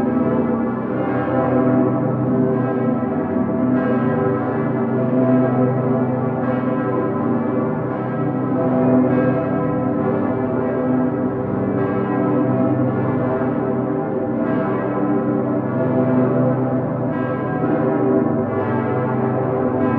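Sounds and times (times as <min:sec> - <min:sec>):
large church bells pealing: 0:00.0 - 0:19.9.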